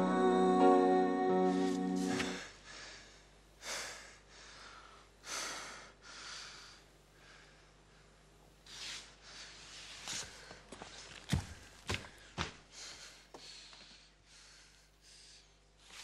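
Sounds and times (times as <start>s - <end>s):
man breathing heavily: 2.0s - 15.7s.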